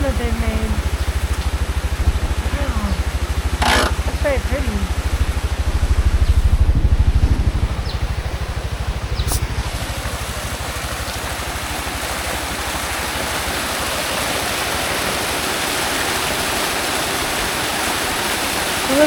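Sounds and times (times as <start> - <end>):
falling water rushing: 0.0 - 19.0
small engine idling: 0.0 - 19.0.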